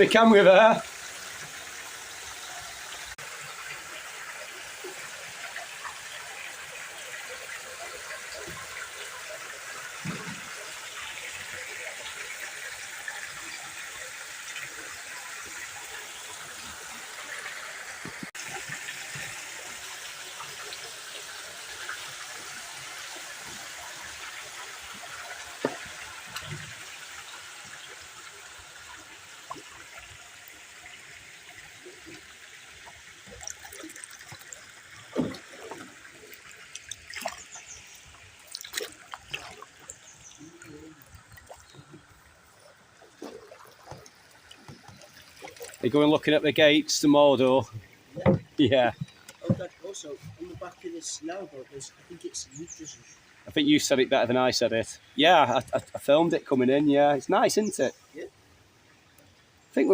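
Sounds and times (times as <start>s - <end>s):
water running and trickling: 0.0s - 59.9s.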